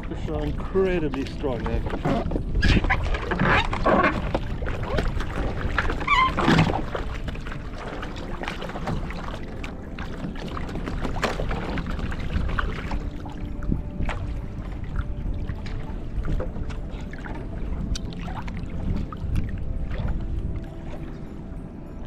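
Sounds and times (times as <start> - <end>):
water sloshing against kayak: 0.0 - 22.0
wind: 0.0 - 22.0.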